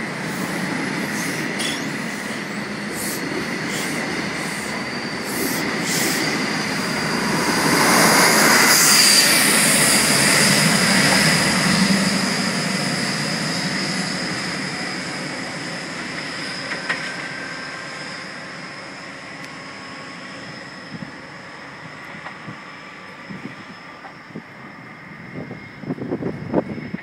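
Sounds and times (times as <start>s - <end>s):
diesel train engine accelerating: 0.0s - 27.0s
high whine: 0.0s - 27.0s.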